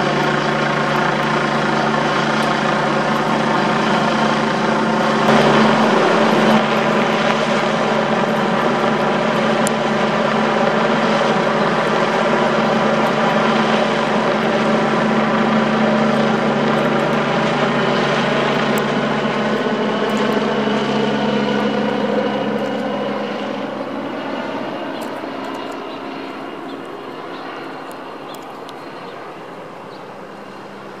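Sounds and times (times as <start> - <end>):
helicopter flying overhead: 0.0 - 31.0.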